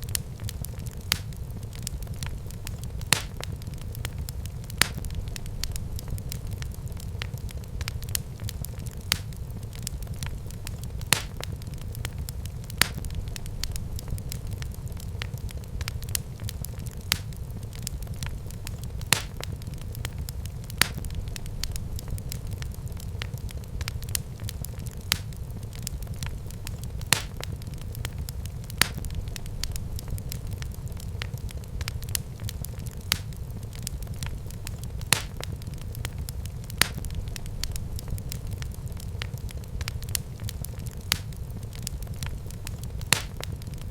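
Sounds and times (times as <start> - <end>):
fire popping: 0.0 - 43.9
wood fire crackling: 0.0 - 43.9.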